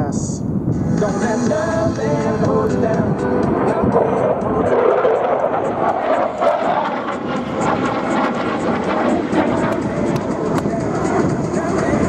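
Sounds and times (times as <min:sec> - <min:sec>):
jet fighter roaring past: 0:01.2 - 0:12.0.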